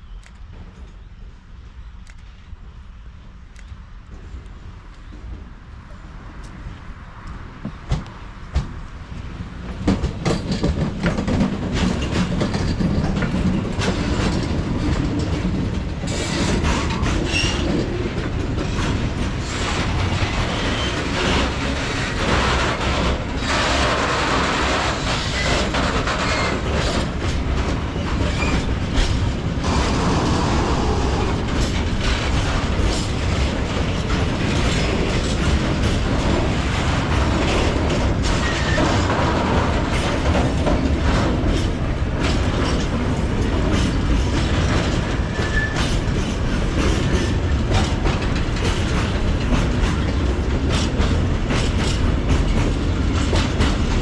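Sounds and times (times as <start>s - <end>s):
freight train rumble: 0.0s - 54.0s
wheels clicking over rail joints: 7.2s - 54.0s.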